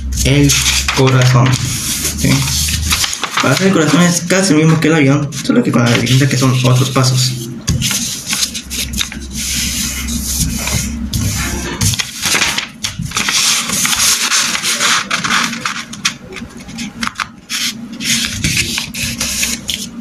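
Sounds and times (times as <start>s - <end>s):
paper rustling and rubbing: 0.0s - 20.0s.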